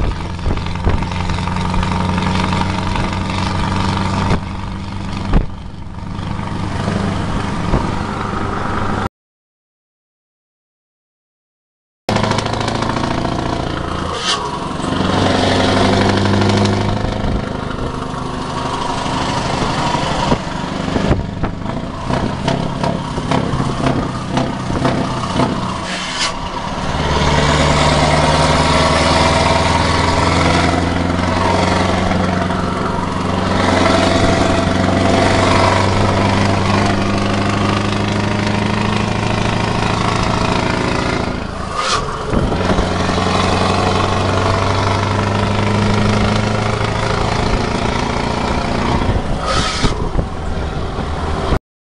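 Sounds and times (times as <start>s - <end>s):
diesel truck engine running: 0.0s - 9.1s, 12.1s - 51.6s.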